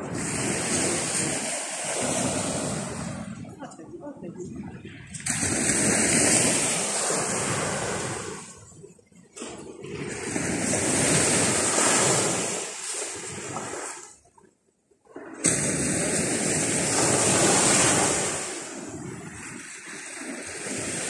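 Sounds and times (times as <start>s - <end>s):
waves washing on beach: 0.0s - 14.3s, 15.0s - 21.0s.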